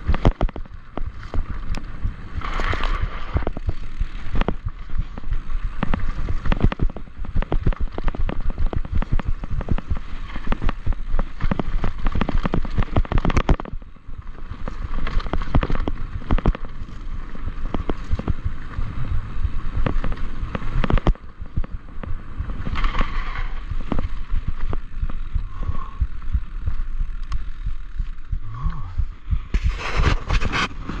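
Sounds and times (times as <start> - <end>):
mountain bike clattering: 0.0 - 28.3
tyres rumbling on dirt: 0.0 - 31.0.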